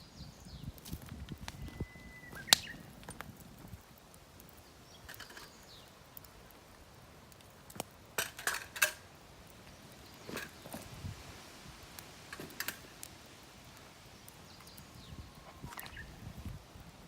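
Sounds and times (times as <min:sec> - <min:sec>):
campfire crackling and popping: 0:00.2 - 0:17.0.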